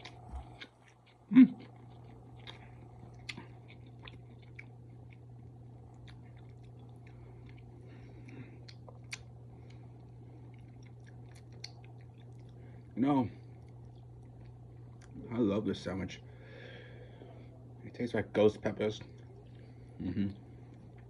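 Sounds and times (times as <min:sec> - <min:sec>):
person chewing food: 0:00.0 - 0:15.3, 0:19.1 - 0:21.0
low steady hum: 0:00.0 - 0:21.0.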